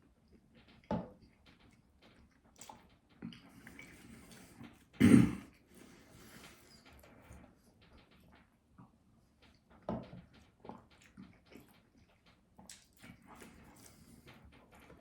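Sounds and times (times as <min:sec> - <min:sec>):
faint smacking and clicks: 0:00.2 - 0:15.0.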